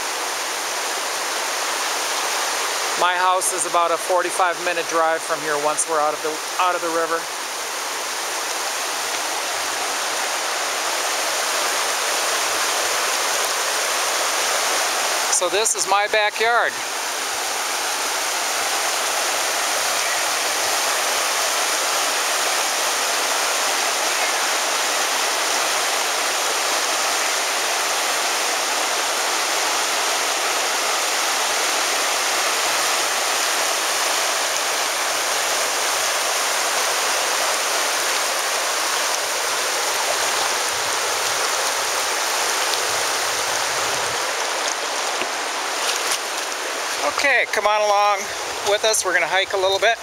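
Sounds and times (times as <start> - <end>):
river water rushing: 0.0 - 50.0.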